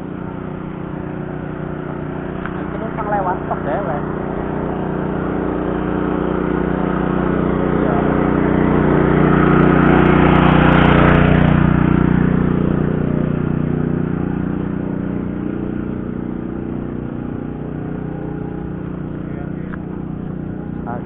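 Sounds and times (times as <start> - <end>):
vehicle engine passing: 0.0 - 21.0.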